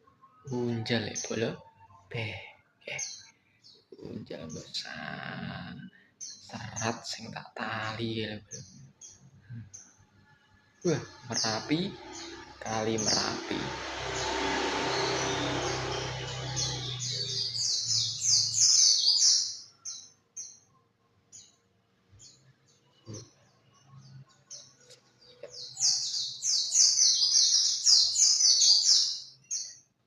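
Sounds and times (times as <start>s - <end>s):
birds twittering song: 0.0s - 30.0s.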